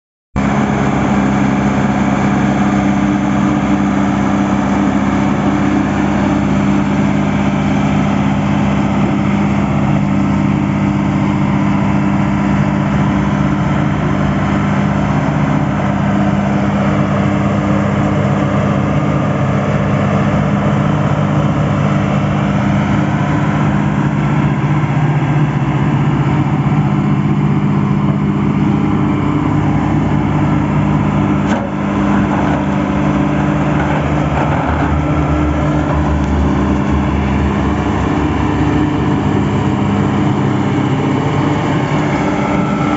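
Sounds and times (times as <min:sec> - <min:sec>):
bulldozer diesel engine running: 0:00.4 - 0:42.9.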